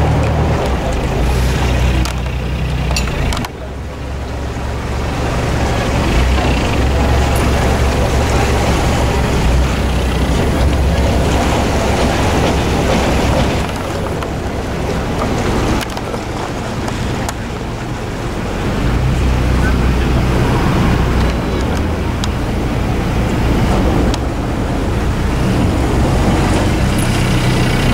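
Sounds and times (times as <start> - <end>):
boat engine rumbling: 0.0 - 27.9.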